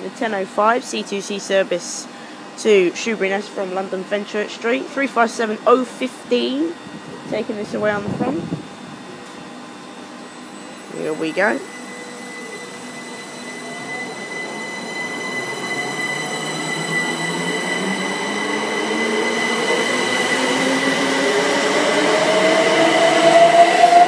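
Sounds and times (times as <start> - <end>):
electric train traction whine: 1.1 - 24.0.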